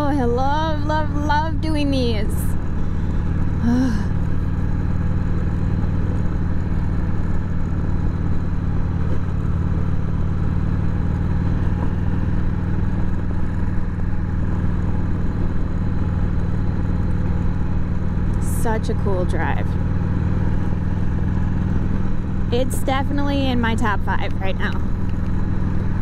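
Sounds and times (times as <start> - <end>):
motorcycle engine cruising: 0.0 - 26.0
road noise: 0.0 - 26.0.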